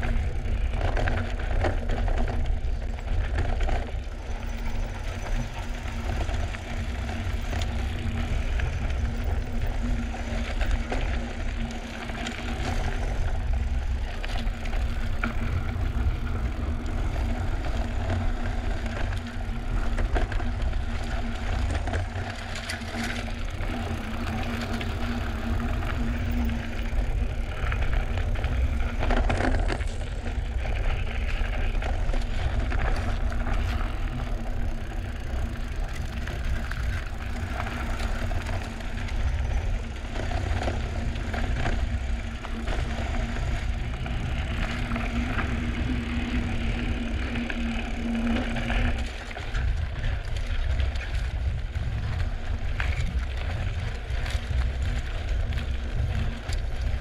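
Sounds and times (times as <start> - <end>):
bike rattling: 0.0 - 57.0
bike tyres crunching over gravel: 0.0 - 57.0
steady low rumble: 0.0 - 57.0.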